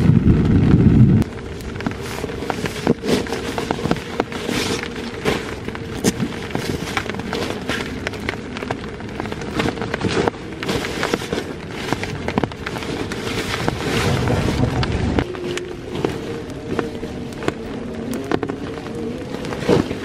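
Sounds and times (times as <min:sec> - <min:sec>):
rain on plastic sheet: 0:00.0 - 0:20.0
nylon fabric crinkling: 0:01.2 - 0:20.0.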